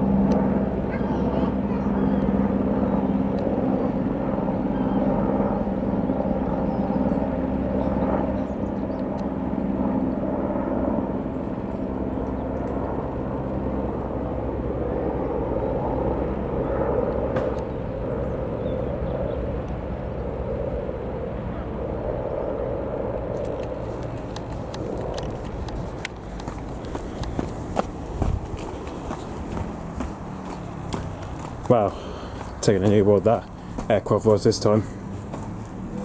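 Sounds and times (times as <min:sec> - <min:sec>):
helicopter flying past: 0:00.0 - 0:36.0.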